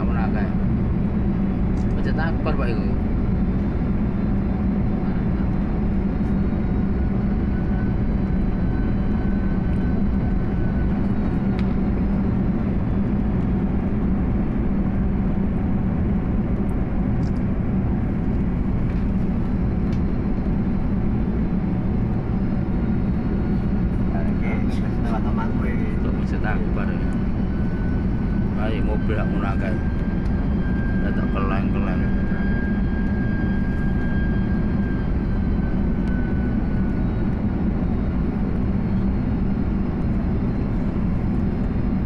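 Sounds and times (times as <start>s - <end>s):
engine rumble and rushing air: 0.0s - 42.0s
faint constant hum: 0.0s - 42.0s.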